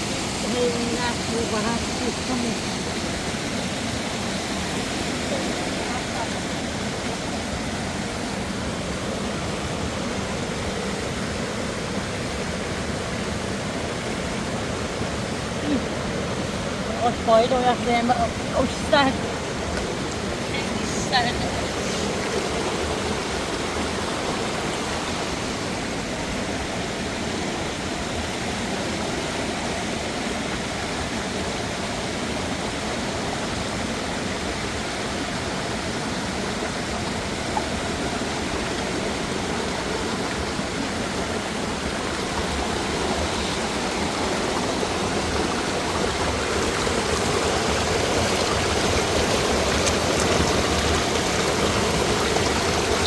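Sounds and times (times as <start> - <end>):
water rushing over rocks: 0.0 - 53.0.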